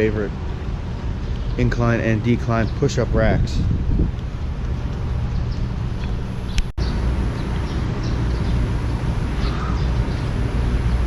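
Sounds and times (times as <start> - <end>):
wind buffeting microphone: 0.7 - 11.0.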